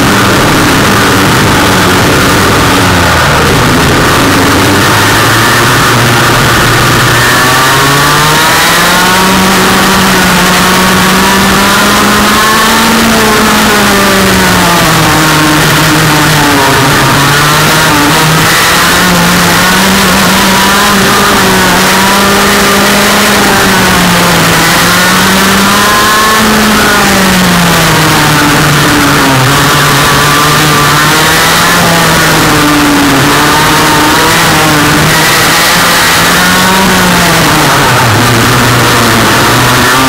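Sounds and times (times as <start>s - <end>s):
race car engine revving: 0.0s - 40.0s
wind and road noise: 0.0s - 40.0s.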